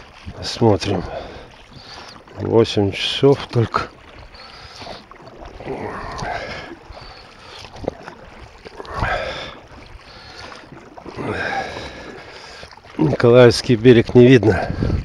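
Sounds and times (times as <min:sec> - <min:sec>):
oars splashing water: 0:00.0 - 0:15.0.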